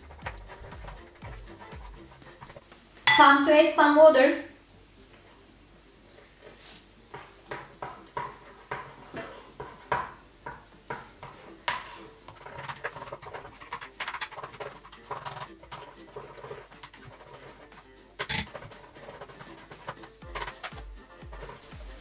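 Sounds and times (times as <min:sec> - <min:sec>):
spoon stirring thick mixture: 0:00.0 - 0:02.7, 0:06.0 - 0:22.0.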